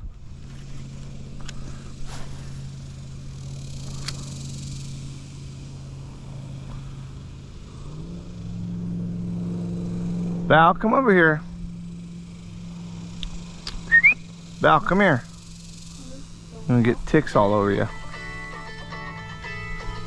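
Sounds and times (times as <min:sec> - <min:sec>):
motor humming: 0:00.0 - 0:20.0.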